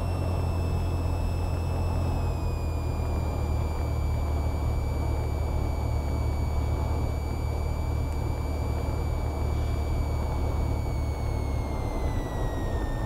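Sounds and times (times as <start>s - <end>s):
aircraft engine and propeller drone: 0.0s - 13.0s
high-pitched whine: 0.0s - 13.0s.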